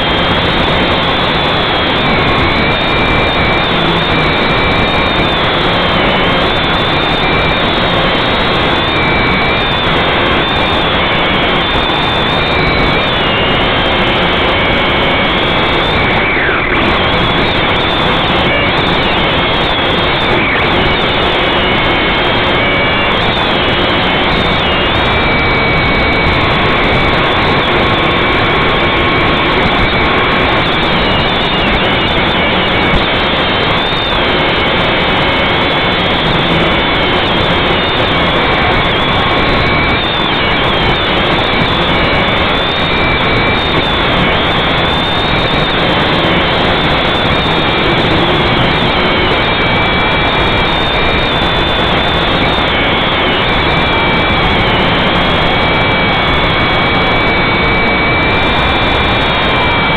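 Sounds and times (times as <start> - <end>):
model aircraft motor whine: 0.0 - 59.9.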